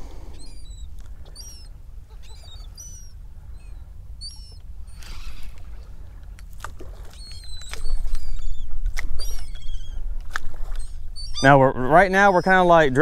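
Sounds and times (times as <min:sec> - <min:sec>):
low steady rumble: 0:00.0 - 0:13.0
seabirds calling: 0:00.0 - 0:13.0.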